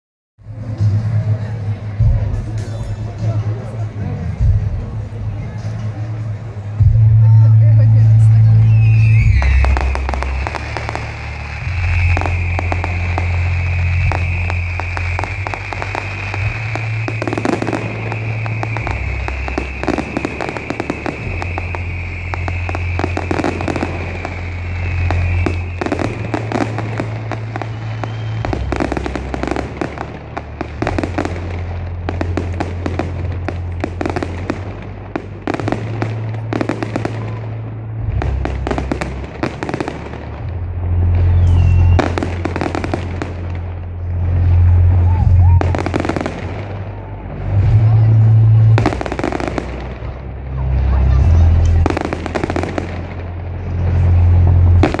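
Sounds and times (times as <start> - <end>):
fireworks bangs and crackles: 0.4 - 55.0
music with bass: 0.4 - 55.0.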